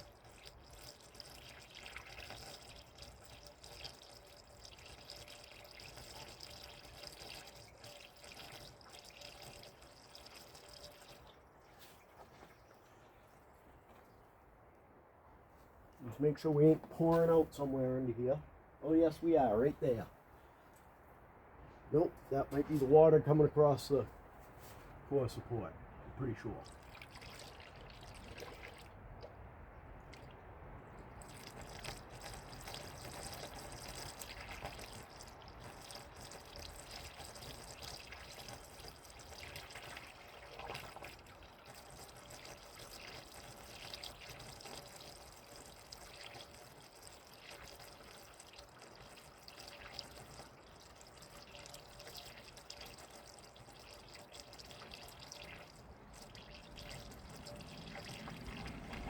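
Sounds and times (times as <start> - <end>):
liquid trickling into radiator: 0.0 - 21.1, 21.9 - 25.3, 26.3 - 59.0.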